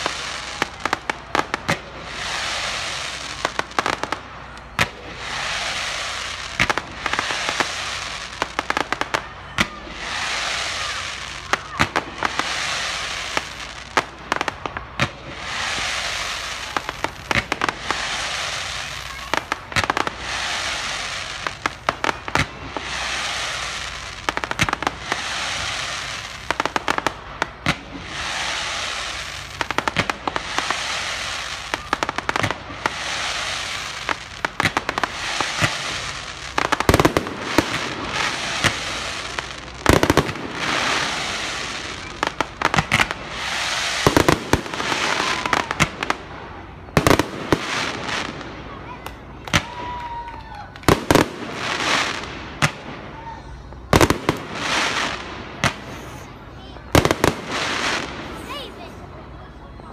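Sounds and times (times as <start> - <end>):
deep fireworks booms: 0.0 - 59.2
continuous crackling hiss: 0.0 - 59.9
fireworks bursting with sharp bangs: 0.0 - 59.9.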